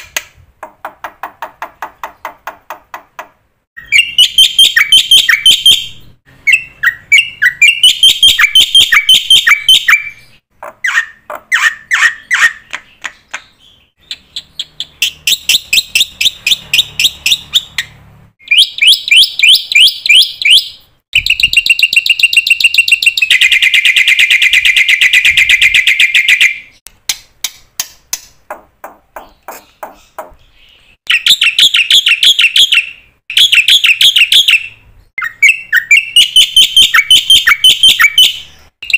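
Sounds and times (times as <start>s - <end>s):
bird singing chirps and trills: 3.8s - 26.8s, 29.2s - 38.9s.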